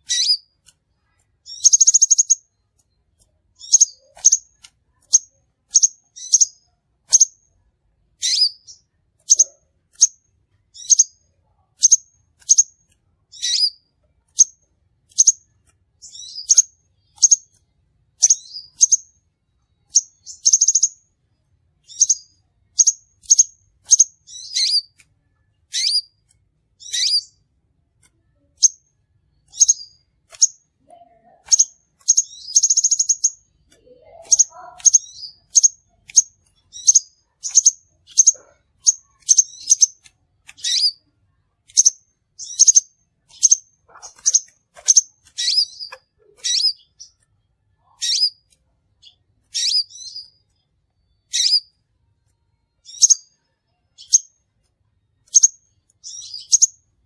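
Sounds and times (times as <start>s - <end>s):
buzzy bird trill: 0.0s - 0.6s, 1.4s - 2.8s, 3.6s - 7.4s, 8.2s - 11.2s, 11.8s - 17.6s, 18.2s - 19.2s, 19.8s - 21.0s, 21.8s - 25.0s, 25.7s - 26.2s, 26.8s - 27.4s, 28.4s - 41.1s, 41.7s - 47.2s, 47.8s - 50.6s, 51.2s - 51.8s, 52.8s - 54.4s, 55.2s - 56.8s
bird chirping: 0.0s - 7.6s, 8.2s - 57.0s.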